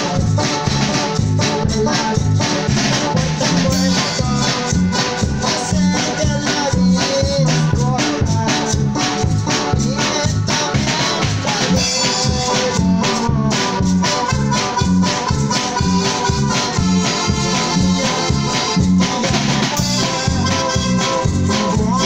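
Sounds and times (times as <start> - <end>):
bass: 0.0 - 22.0
bass drum: 0.0 - 22.0
electric guitar: 0.0 - 22.0
keyboard melody: 0.0 - 22.0.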